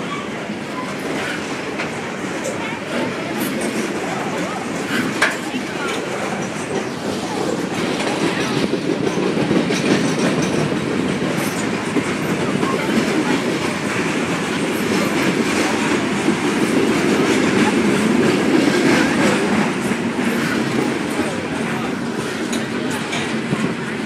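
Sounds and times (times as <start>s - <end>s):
clicks of passing rail cars: 0.0s - 24.0s
train wheels rumbling on rails: 0.0s - 24.0s.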